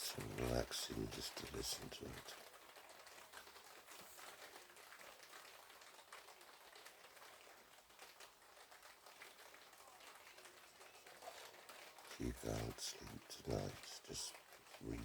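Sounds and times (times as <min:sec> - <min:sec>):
raindrops ticking on patio: 0:00.0 - 0:15.0.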